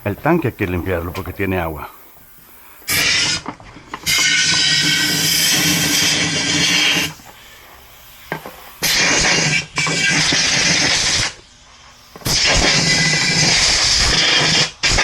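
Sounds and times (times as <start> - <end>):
pressurised nozzle hissing blasts: 0.0 - 15.0.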